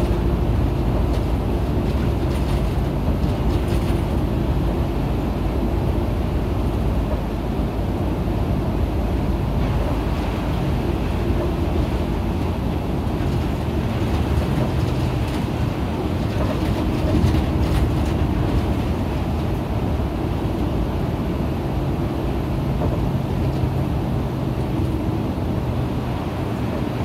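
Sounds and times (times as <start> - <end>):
bus diesel engine running: 0.0 - 27.0
road noise: 0.0 - 27.0.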